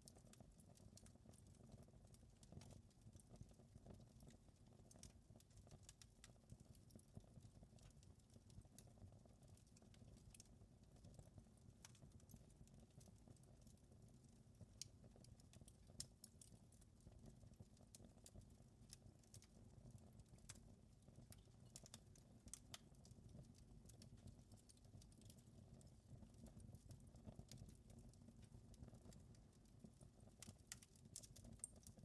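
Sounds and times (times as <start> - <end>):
wood fire crackling: 0.0 - 32.0
low rumble of fire: 0.1 - 32.0.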